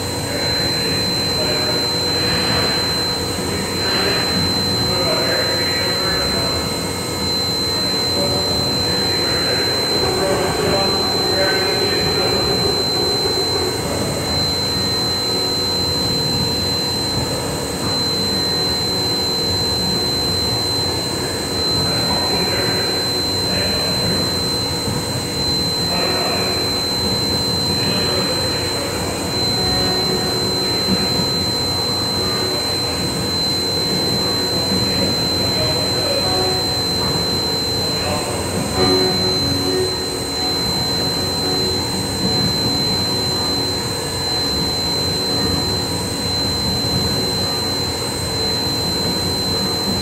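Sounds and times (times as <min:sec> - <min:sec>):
machine running with high whine: 0:00.0 - 0:50.0.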